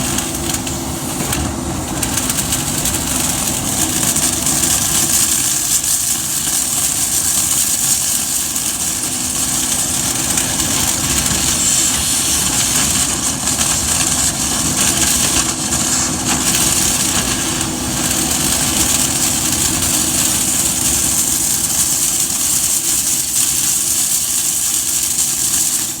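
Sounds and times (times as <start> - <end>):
rushing hiss of air: 0.0 - 26.0.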